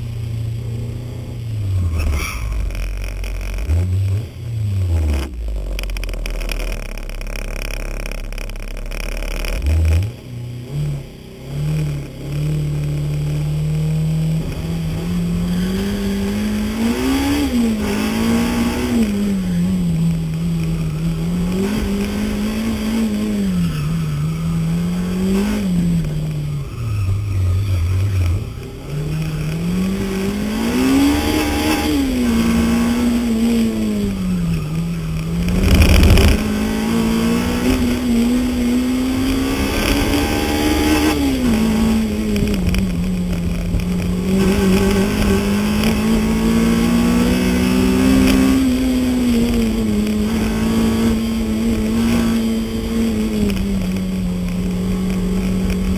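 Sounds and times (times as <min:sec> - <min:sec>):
car engine revving: 0:00.0 - 0:55.9.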